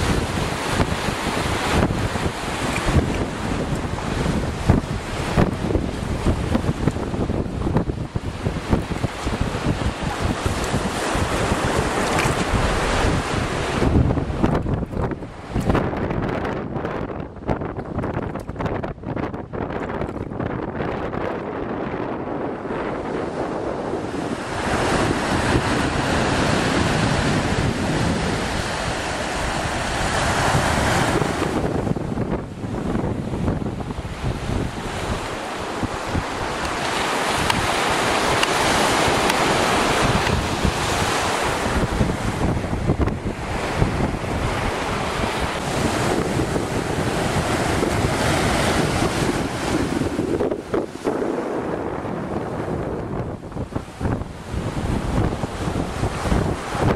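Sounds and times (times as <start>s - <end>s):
sea waves washing: 0.0s - 56.9s
wind buffeting microphone: 0.0s - 56.9s.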